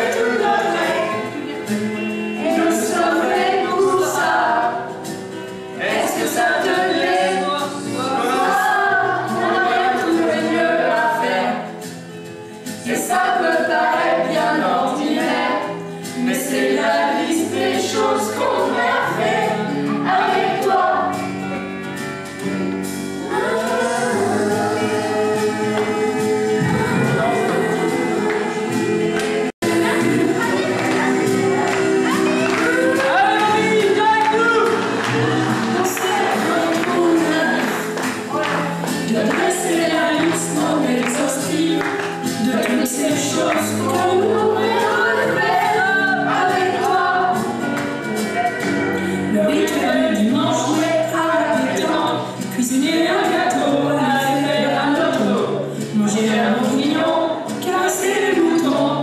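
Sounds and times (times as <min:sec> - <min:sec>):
group of voices singing: 0:00.0 - 0:11.9, 0:12.6 - 0:21.7, 0:23.2 - 0:59.0
instrumental accompaniment: 0:00.0 - 0:53.6.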